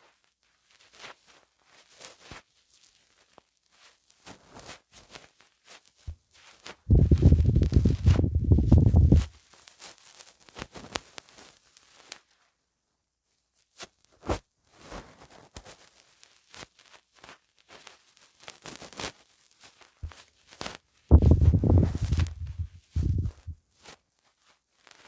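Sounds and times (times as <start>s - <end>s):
soft clicks and crackles: 0.0s - 12.5s, 13.6s - 25.0s.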